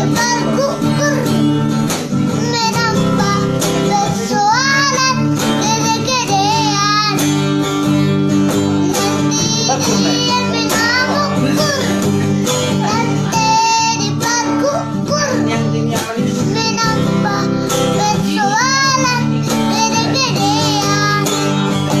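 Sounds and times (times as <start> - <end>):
high singing voice: 0.0 - 22.0
plucked guitar: 0.0 - 22.0.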